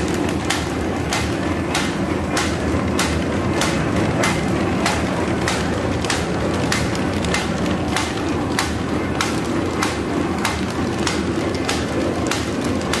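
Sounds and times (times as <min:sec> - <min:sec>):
machine mechanical rumble: 0:00.0 - 0:13.0
machine sharp knock: 0:00.3 - 0:13.0.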